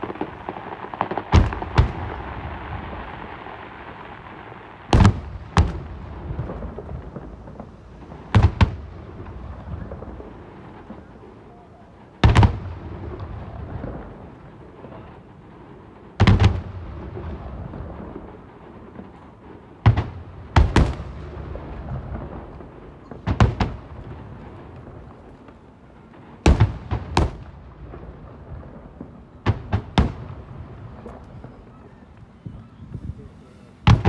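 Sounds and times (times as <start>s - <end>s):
fireworks bangs: 0.0s - 34.0s
low rolling echo: 0.0s - 34.0s.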